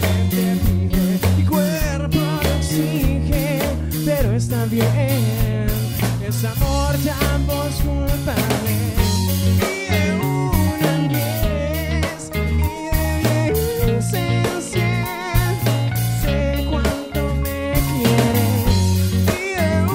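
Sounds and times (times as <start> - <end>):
drum kit: 0.0 - 19.9
electric guitar: 0.0 - 19.9
low bass notes: 0.0 - 19.9
man singing: 0.0 - 19.9.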